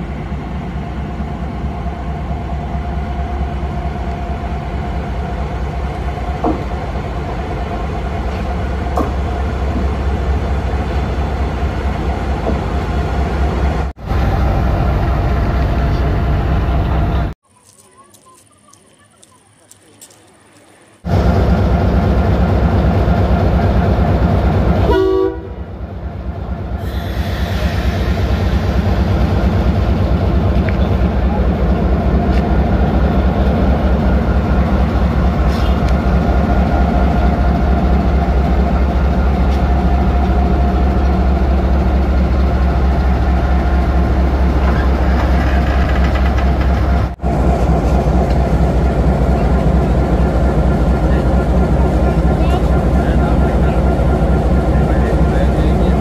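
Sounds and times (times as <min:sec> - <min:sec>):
diesel locomotive engine rumbling: 0:00.0 - 0:56.0.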